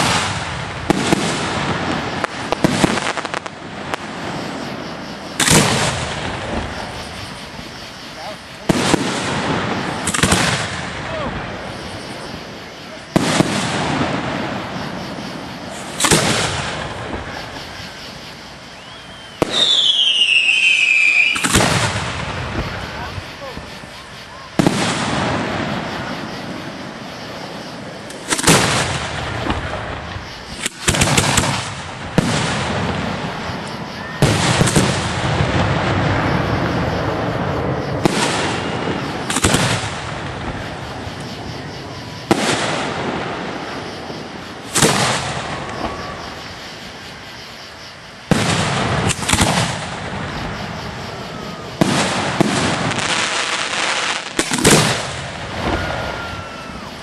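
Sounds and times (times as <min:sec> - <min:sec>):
fireworks exploding with echoing rumble: 0:00.0 - 0:57.0.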